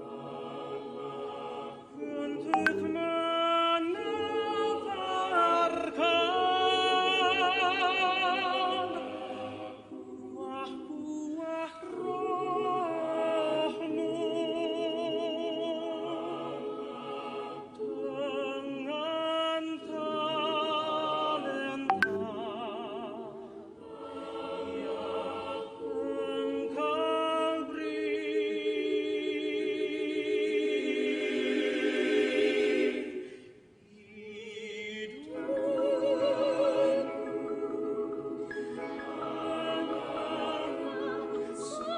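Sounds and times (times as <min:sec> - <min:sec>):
voices singing in parts: 0:00.0 - 0:41.9.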